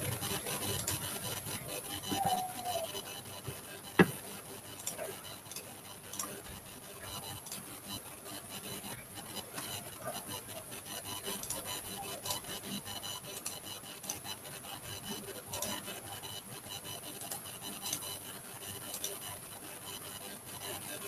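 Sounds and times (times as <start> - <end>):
stylus scratching on graphics tablet: 0.0 - 21.0.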